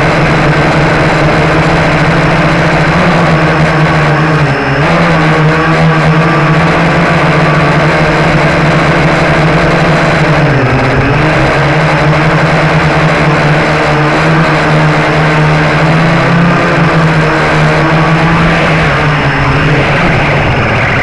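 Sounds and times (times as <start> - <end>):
quadcopter motors whirring: 0.0 - 21.0.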